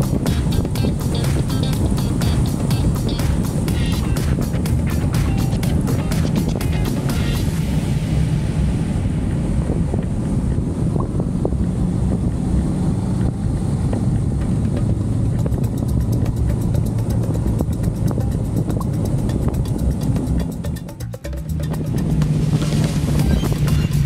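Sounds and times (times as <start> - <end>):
motorcycle engine running: 0.0 - 7.7, 9.4 - 24.0
wind noise on microphone: 0.0 - 24.0.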